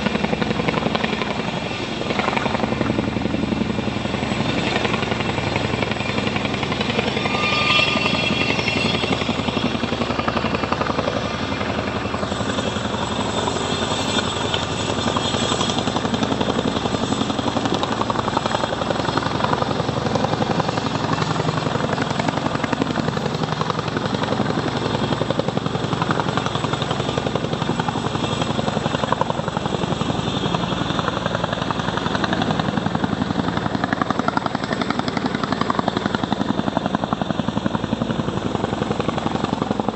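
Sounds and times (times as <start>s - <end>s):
helicopter rotor blades chopping: 0.0s - 39.9s.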